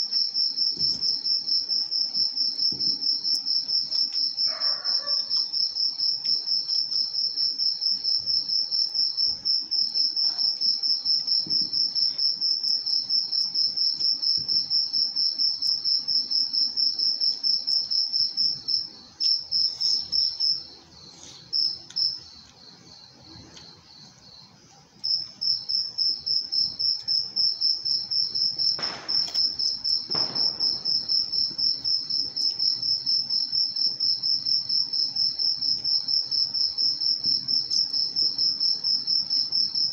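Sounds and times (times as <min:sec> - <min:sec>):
insect chirping trill: 0:00.0 - 0:39.9.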